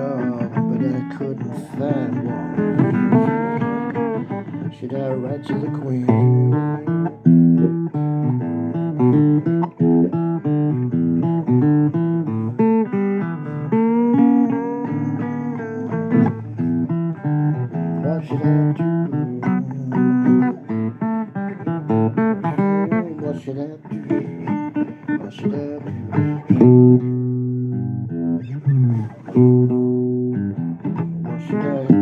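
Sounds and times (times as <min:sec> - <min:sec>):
blues guitar picking: 0:00.0 - 0:32.0.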